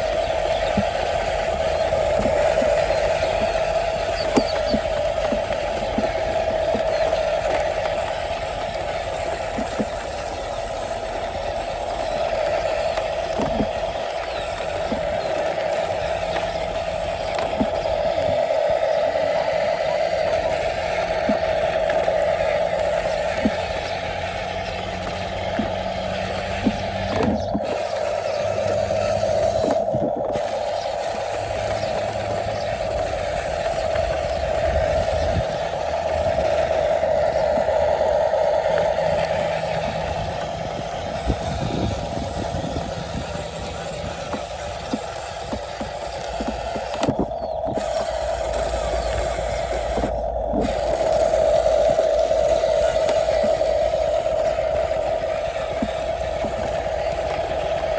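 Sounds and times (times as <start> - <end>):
toy truck motor whining: 0.0 - 57.9.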